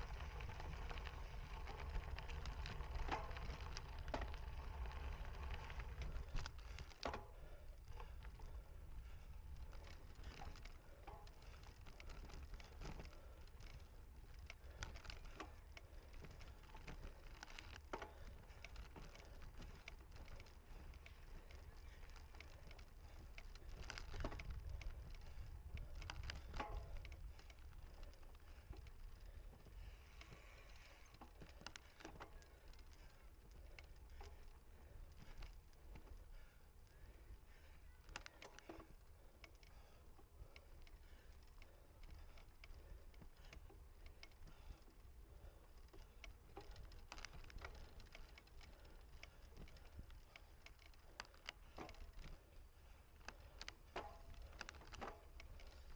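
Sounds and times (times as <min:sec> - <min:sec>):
bike rattling and clicking: 0:00.0 - 0:55.9.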